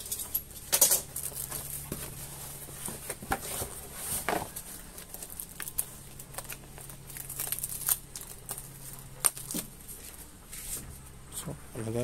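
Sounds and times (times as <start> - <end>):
packaging crinkling and rustling: 0.0 - 10.8.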